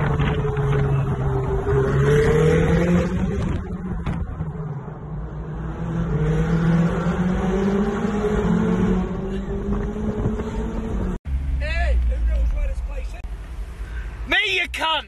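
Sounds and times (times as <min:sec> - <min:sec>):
sports car engines accelerating: 0:00.0 - 0:13.8.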